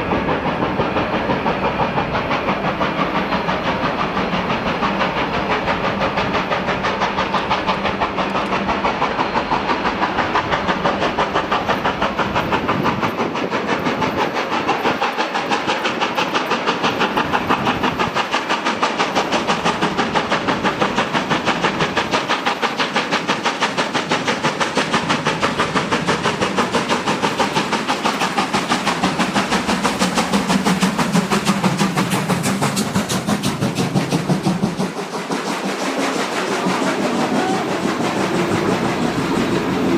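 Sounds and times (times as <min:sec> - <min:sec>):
steam hiss: 0:00.0 - 0:39.9
steam locomotive chuffing: 0:00.0 - 0:39.9.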